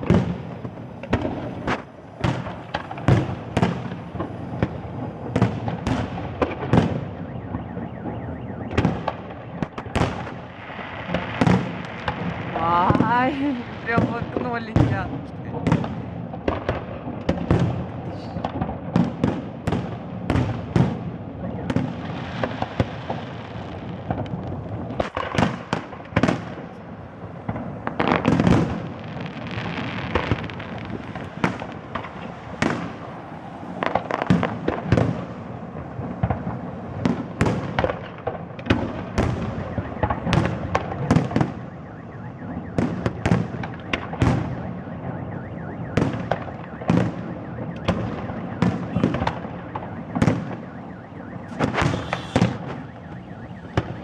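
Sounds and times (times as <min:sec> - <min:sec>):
firework crackling: 0:00.0 - 0:45.4, 0:46.0 - 0:54.0
firework bangs: 0:00.0 - 0:54.0.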